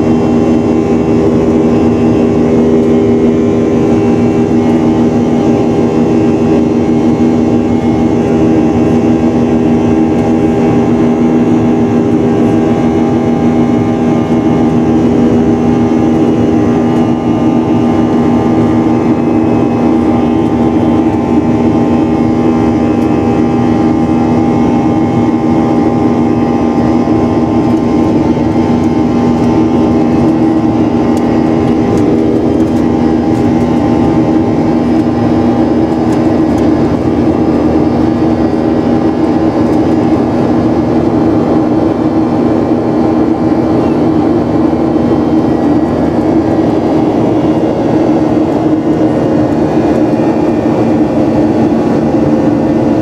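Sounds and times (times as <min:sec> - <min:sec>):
jet engine drone: 0:00.0 - 0:53.0
steady hum tones: 0:00.0 - 0:53.0.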